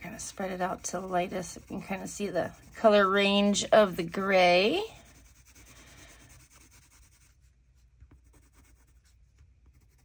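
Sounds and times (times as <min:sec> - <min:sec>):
coloured pencil scratching on paper: 0:00.0 - 0:10.0.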